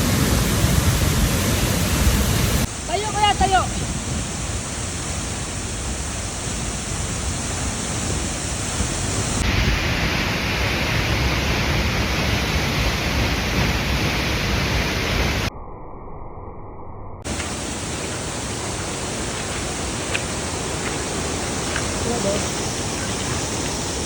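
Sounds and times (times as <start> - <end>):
waterfall rushing: 0.0 - 15.5, 17.3 - 24.0.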